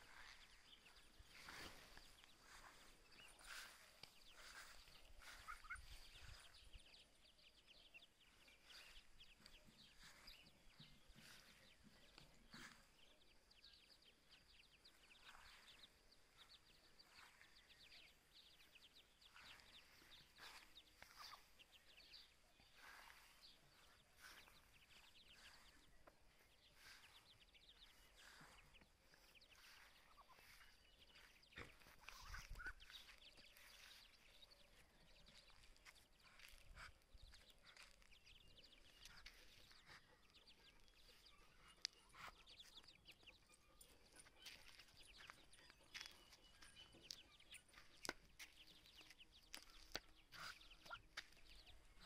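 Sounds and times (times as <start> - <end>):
ducklings peeping: 0.0 - 52.0.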